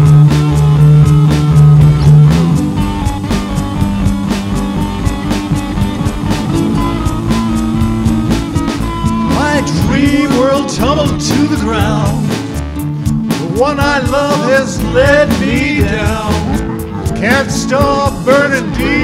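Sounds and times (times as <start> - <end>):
drum kit playing: 0.0 - 19.0
rock guitar: 0.0 - 19.0.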